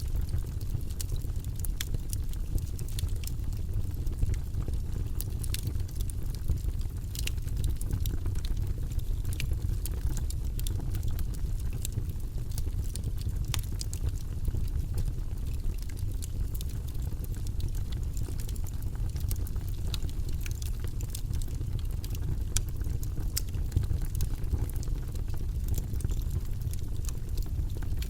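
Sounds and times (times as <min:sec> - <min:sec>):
campfire crackling and popping: 0:00.0 - 0:28.0
low rumble of flames: 0:00.0 - 0:28.0.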